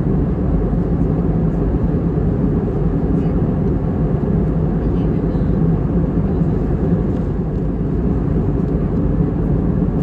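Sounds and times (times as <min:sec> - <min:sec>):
aircraft cabin engine roar: 0:00.0 - 0:10.0.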